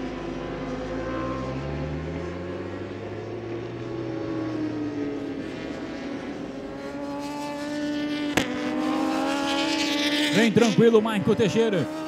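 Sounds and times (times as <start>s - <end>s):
motorcycle engine racing: 0.0s - 12.0s.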